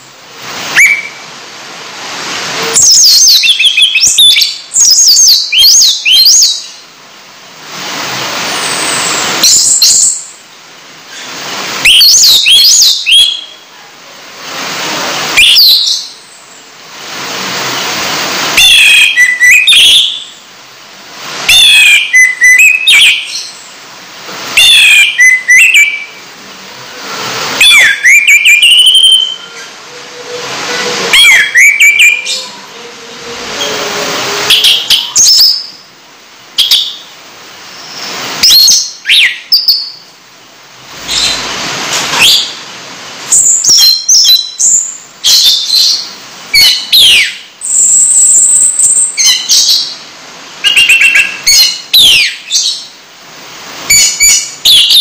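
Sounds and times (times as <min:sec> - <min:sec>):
running tap water hiss: 0:00.0 - 0:54.9.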